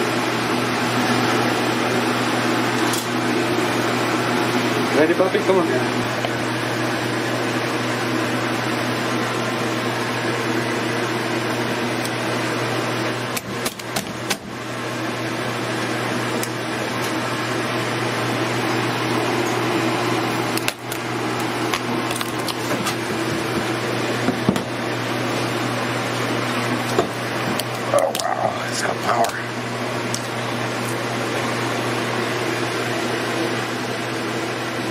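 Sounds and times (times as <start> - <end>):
fan motor humming: 0.0 - 34.9.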